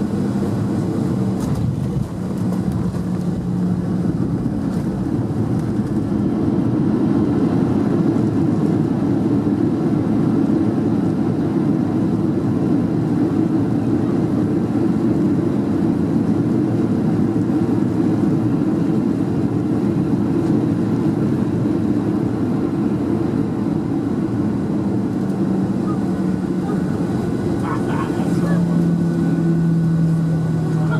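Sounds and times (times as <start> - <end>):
airliner cabin engine rumble: 0.0 - 30.9.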